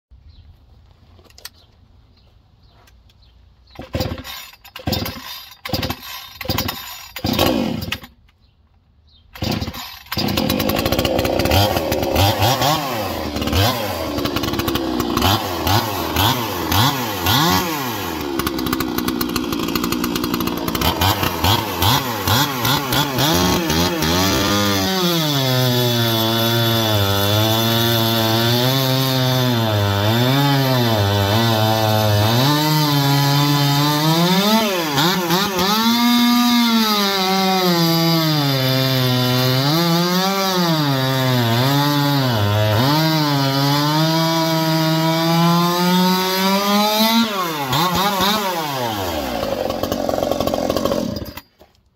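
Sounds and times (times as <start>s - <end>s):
chainsaw revving: 3.7s - 8.2s, 9.4s - 51.5s
chainsaw cutting log: 3.7s - 8.3s, 9.4s - 51.8s
chainsaw pull-start: 3.7s - 8.3s, 9.3s - 51.9s.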